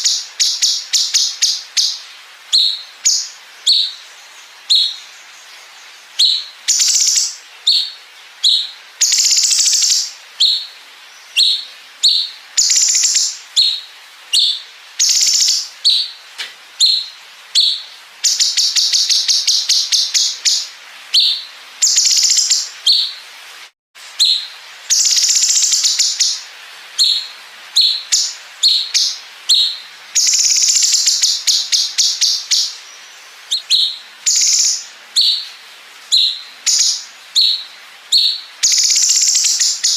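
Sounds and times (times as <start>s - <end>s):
bird chirping: 0.0s - 23.3s, 24.0s - 39.9s.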